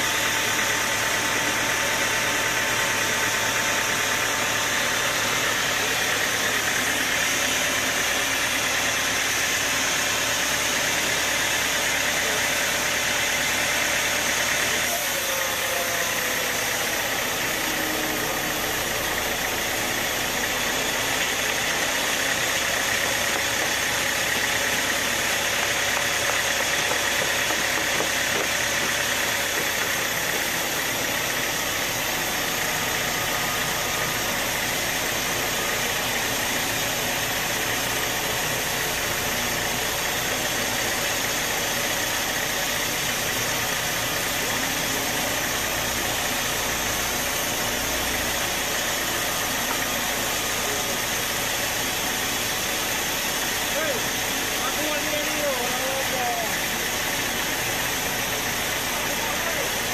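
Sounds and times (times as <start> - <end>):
sawmill droning: 0.0 - 59.9.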